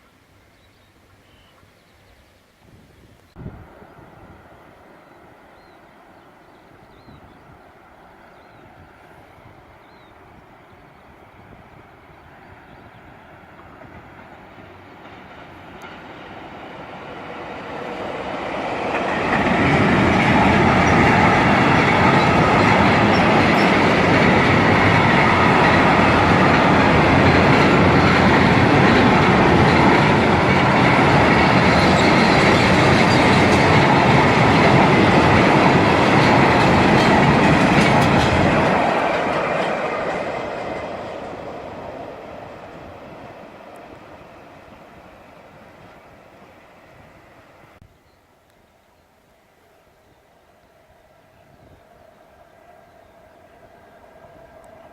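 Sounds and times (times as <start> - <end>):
freight train passing: 3.3 - 48.2, 49.3 - 54.9.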